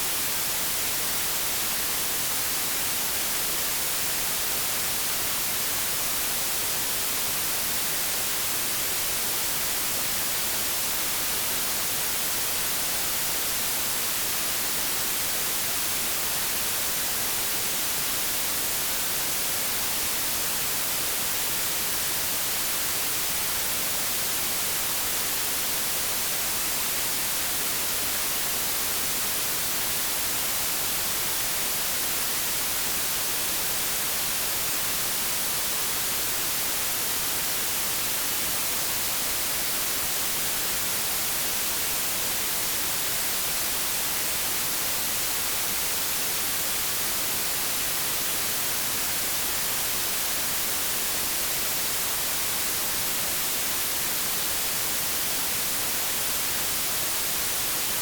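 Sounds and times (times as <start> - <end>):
white-noise static hiss: 0.0 - 58.0.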